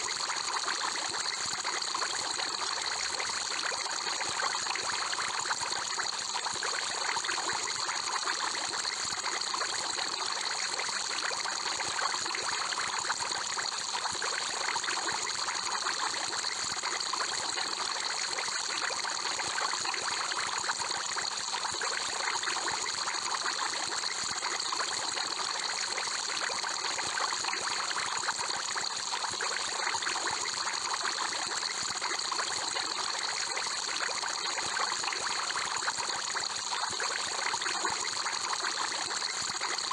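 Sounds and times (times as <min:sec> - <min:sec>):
aquarium bubbles trickling: 0:00.1 - 0:39.9.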